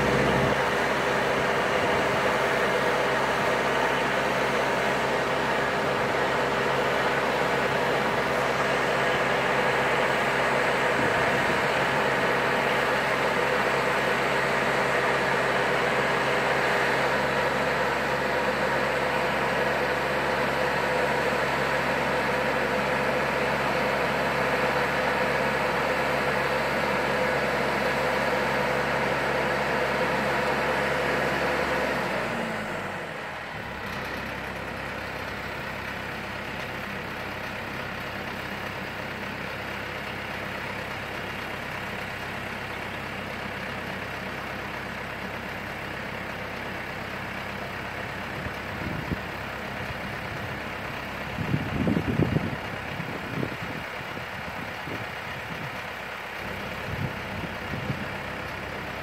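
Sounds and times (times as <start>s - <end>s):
engine running and idling: 0.0s - 59.0s.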